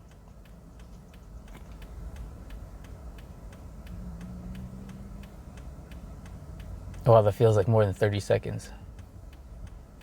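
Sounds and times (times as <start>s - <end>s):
faint regular ticking: 0.0s - 10.0s
low steady hum: 0.0s - 10.0s.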